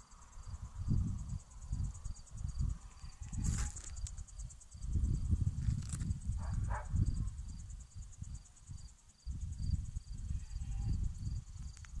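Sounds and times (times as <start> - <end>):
crickets chirping: 0.0 - 12.0
low rumble on microphone: 0.4 - 12.0.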